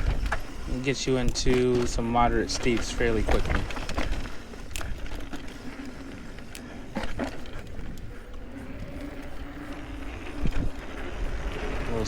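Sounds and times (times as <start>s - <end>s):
bike knocking and rattling: 0.0s - 12.0s
bike tyres rumbling on dirt: 0.0s - 12.0s
wind noise: 0.0s - 12.0s.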